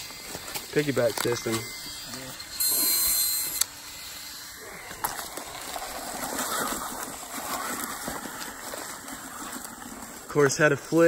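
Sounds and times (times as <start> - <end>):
rustling in dry leaves: 0.0 - 11.0.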